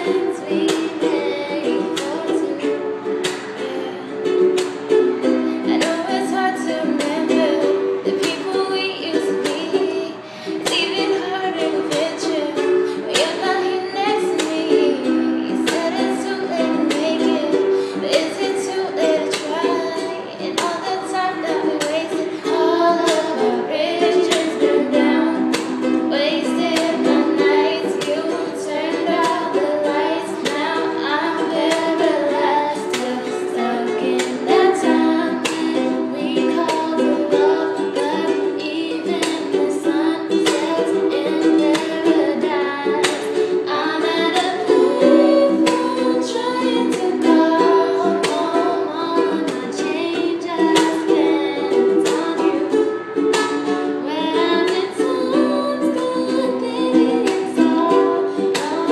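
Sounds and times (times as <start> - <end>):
girls singing a pop song: 0.0 - 58.9
strummed acoustic strings: 0.0 - 58.9.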